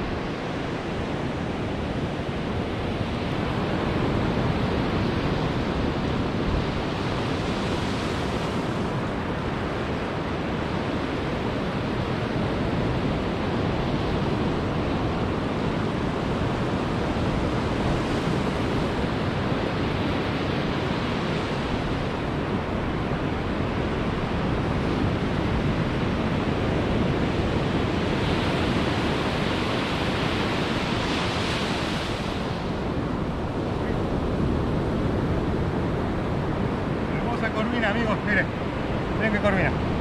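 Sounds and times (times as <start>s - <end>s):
ocean surf breaking: 0.0s - 40.0s
wind on microphone: 0.0s - 40.0s.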